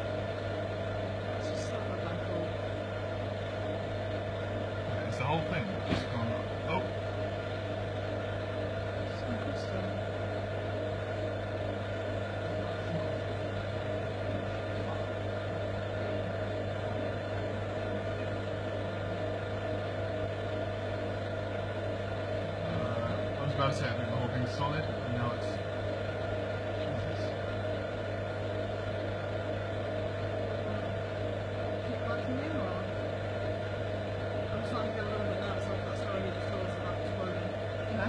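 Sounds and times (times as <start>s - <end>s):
vacuum pump humming: 0.0s - 38.0s.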